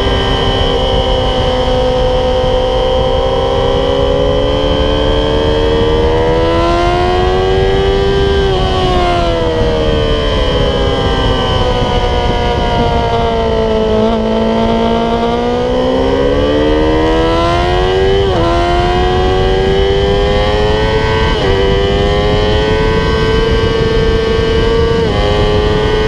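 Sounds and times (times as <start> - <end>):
motorcycle engine revving: 0.0 - 26.0
wind rush: 0.0 - 26.0.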